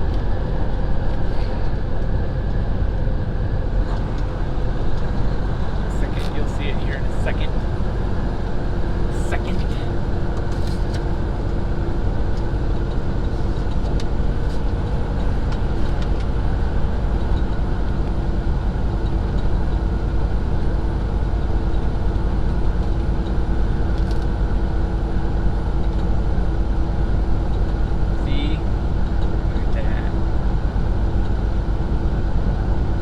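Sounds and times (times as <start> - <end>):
road rumble: 0.0 - 33.0
truck engine drone: 0.0 - 33.0.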